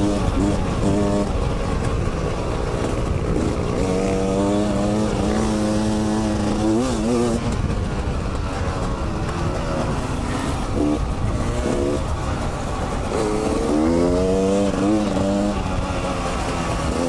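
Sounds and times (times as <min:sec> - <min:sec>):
dirt bike engine accelerating: 0:00.0 - 0:17.0
wind rumble on microphone: 0:00.0 - 0:17.0.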